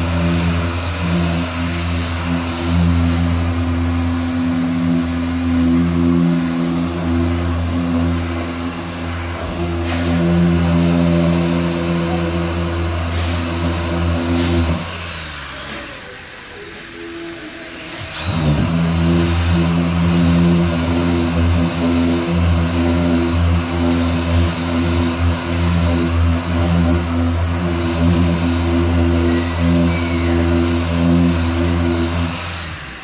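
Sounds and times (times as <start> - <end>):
machine motor humming: 0.0 - 33.0.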